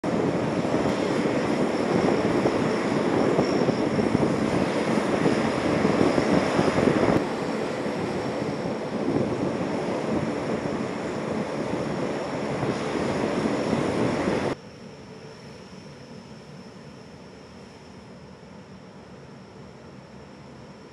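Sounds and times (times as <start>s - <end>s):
faint high whine: 0.0s - 20.9s
turboprop engines droning: 0.0s - 20.9s.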